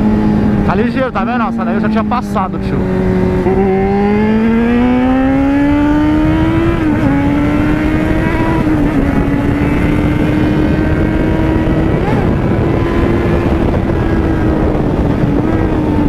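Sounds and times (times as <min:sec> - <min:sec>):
motorcycle engine revving: 0:00.0 - 0:16.0
road noise: 0:00.0 - 0:16.0
wind noise: 0:00.0 - 0:16.0.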